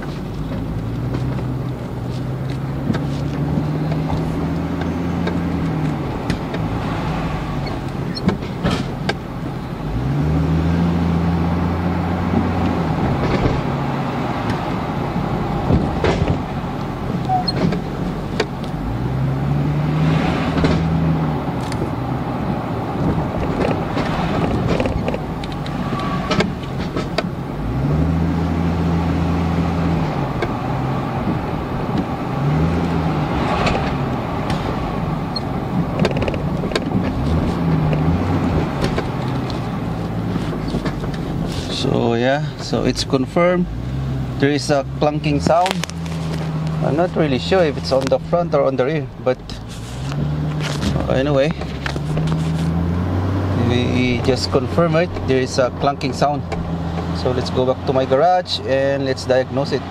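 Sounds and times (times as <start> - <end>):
car engine: 0.0 - 59.9
suspension clunks: 0.0 - 59.9
tyre and road noise: 0.0 - 59.9.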